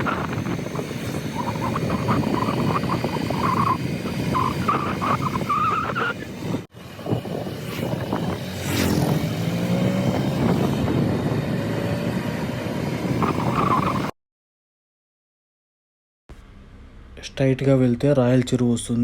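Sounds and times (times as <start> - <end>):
vehicle engine and road noise: 0.0 - 14.2, 16.3 - 19.0.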